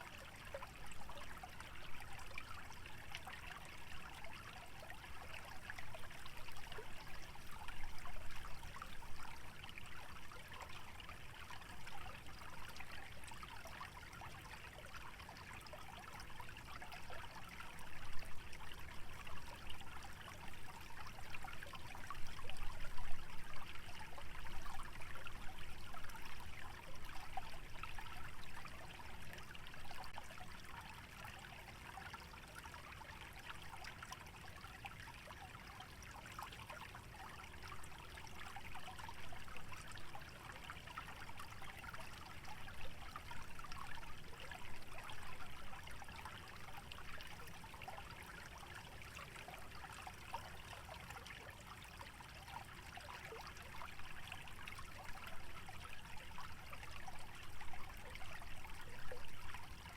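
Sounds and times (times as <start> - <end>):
stream trickling and splashing: 0.0 - 59.9.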